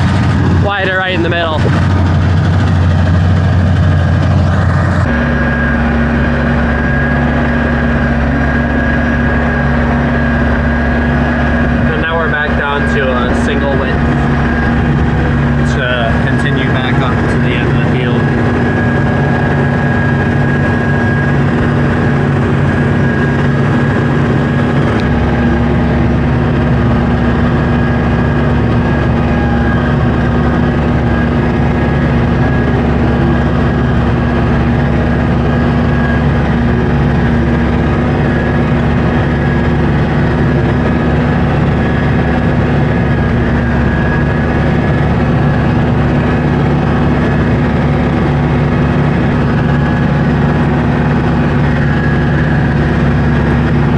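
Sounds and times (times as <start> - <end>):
thin steady whine: 0.0 - 53.9
tractor diesel engine under load: 0.0 - 53.9.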